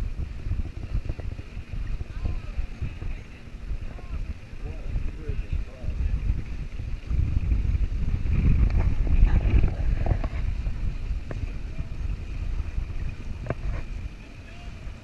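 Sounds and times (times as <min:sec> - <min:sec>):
water rushing alongside boat: 0:00.0 - 0:15.0
wind buffeting microphone: 0:00.0 - 0:15.0.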